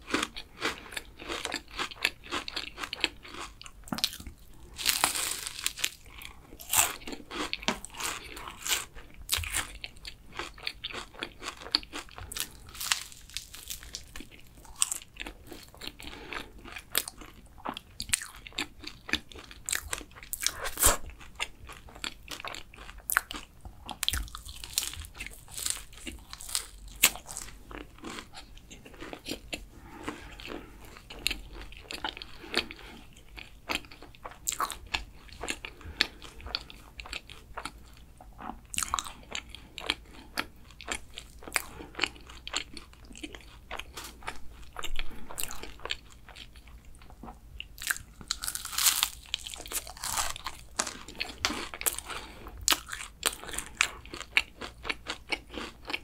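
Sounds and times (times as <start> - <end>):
crunchy pastry being chewed: 0.0 - 56.0.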